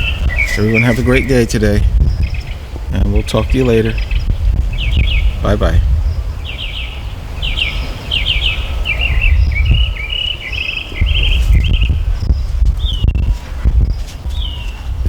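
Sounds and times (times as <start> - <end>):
songbird trilling and chattering: 0.0 - 13.2, 14.3 - 14.8
wind buffeting microphone: 0.0 - 15.0.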